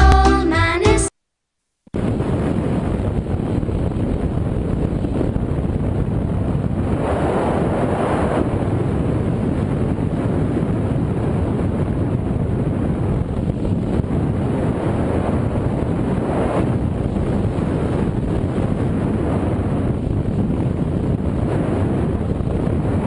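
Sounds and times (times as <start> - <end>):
wind buffeting microphone: 2.0 - 23.0.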